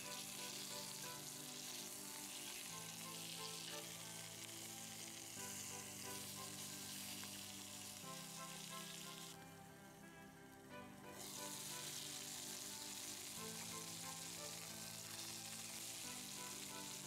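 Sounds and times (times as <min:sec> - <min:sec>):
meat sizzling in a skillet: 0:00.0 - 0:09.4, 0:11.0 - 0:17.0
soft background music: 0:00.0 - 0:17.0.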